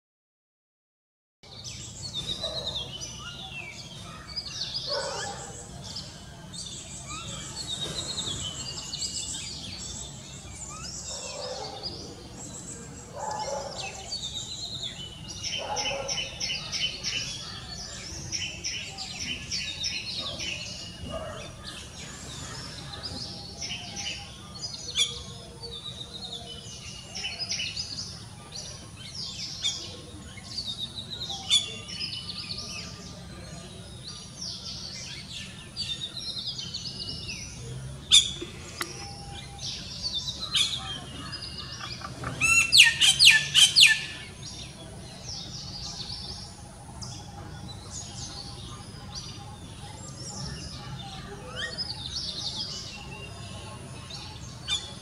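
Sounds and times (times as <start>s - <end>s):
birds chirping and whistling: 1.5s - 55.0s.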